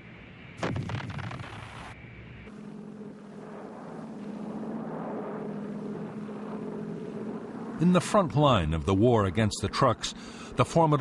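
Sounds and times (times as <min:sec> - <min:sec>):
aircraft piston engines droning: 0:01.6 - 0:11.0.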